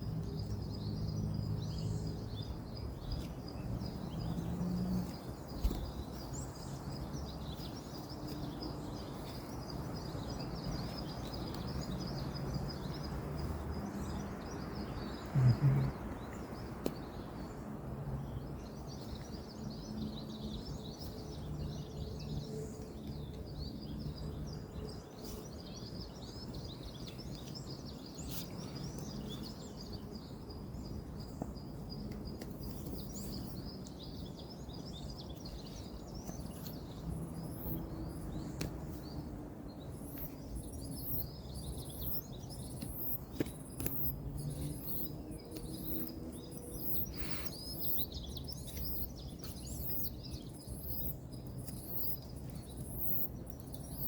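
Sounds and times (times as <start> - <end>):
distant road traffic rumble: 0.0 - 26.4, 30.7 - 54.0
small birds chirping: 0.0 - 54.0.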